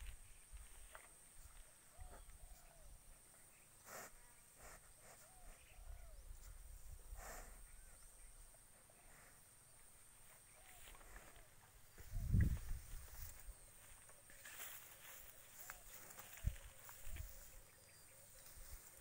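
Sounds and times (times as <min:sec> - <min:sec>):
faint chirping: 0:01.4 - 0:19.0.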